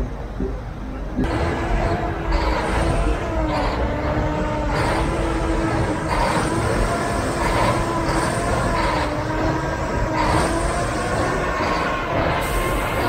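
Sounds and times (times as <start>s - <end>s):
truck diesel engines revving: 0.0s - 13.0s.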